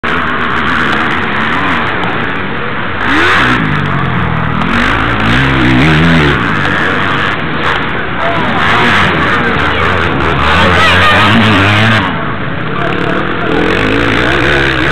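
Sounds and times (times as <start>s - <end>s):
motocross motorcycle engine revving: 0.0s - 14.9s.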